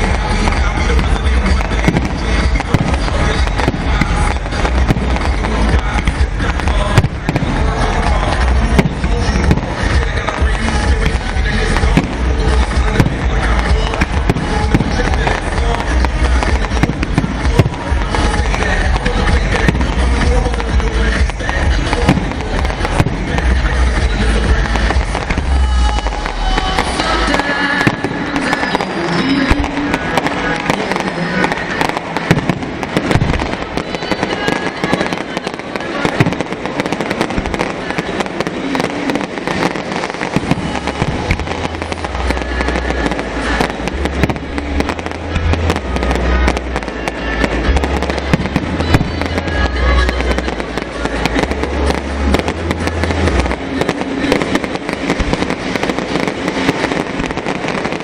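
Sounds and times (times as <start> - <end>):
fireworks bangs and crackling: 0.0 - 58.0
music with deep bass line: 0.0 - 58.0.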